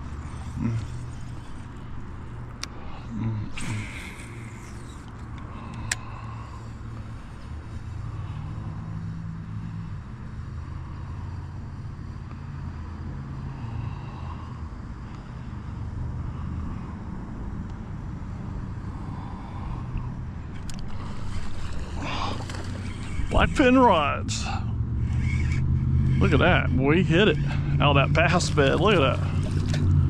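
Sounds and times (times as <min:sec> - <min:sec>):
engine humming: 0:00.0 - 0:30.0.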